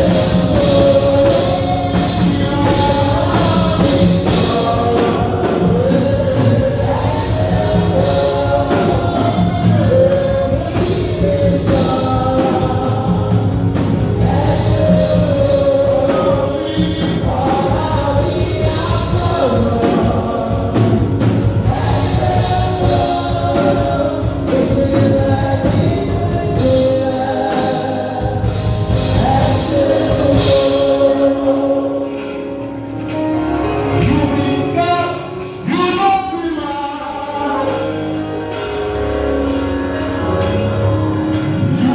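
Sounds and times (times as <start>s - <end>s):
gospel choir singing over band: 0.0s - 41.9s.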